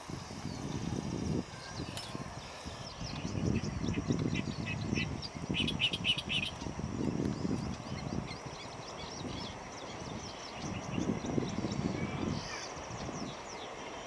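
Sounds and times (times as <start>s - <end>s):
steady low rumble: 0.0s - 13.6s
small birds chirping: 0.0s - 14.0s.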